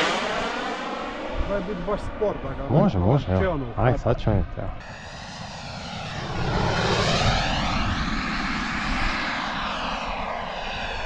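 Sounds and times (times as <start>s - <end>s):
model jet turbine roar: 0.0s - 11.0s
wind rumbling on microphone: 0.0s - 11.0s.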